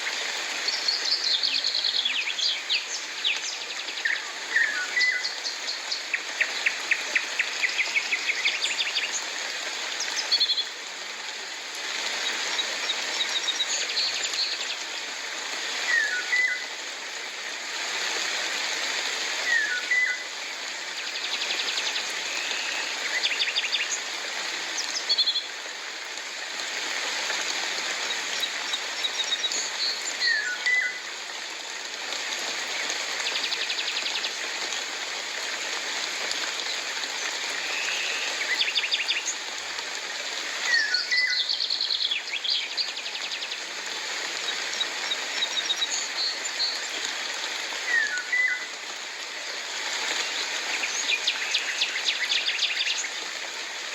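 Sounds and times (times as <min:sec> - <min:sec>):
rain hissing: 0:00.0 - 0:53.9.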